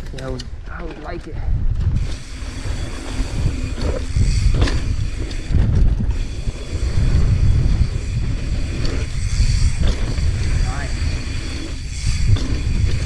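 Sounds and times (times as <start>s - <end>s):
bike rattling over ground: 0.0s - 13.0s
wind buffeting microphone: 0.0s - 13.0s.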